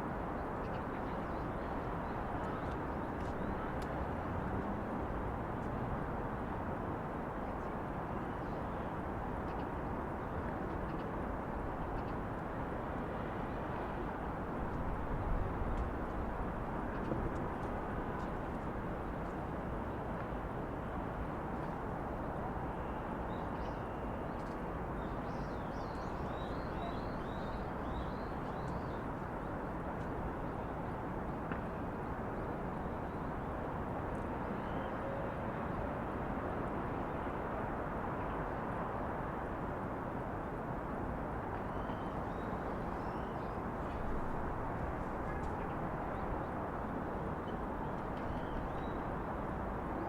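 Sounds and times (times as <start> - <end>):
distant city traffic hum: 0.0 - 50.0.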